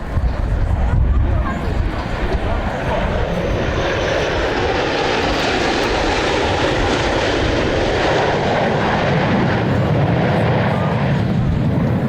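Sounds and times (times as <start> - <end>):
airplane engine rushing: 0.0 - 12.0.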